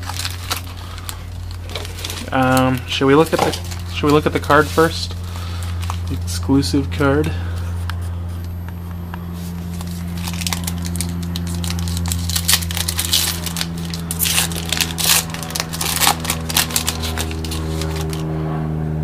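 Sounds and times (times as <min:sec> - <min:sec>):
foil pack crinkling: 0:00.0 - 0:06.4, 0:09.4 - 0:18.2
steady low hum: 0:00.0 - 0:19.0.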